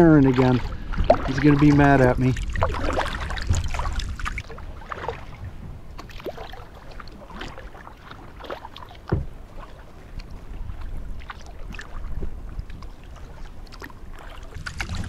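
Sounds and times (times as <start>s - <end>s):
wind rumble on microphone: 0.0s - 8.0s, 9.1s - 15.0s
paddle splashes and drips: 0.0s - 15.0s.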